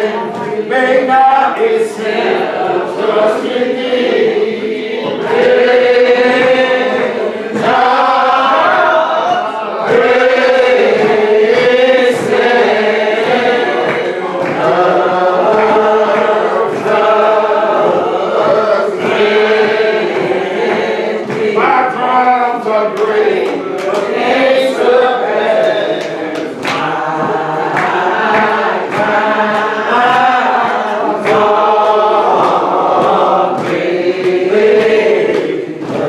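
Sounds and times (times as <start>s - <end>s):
men singing a cappella hymn: 0.0s - 36.0s.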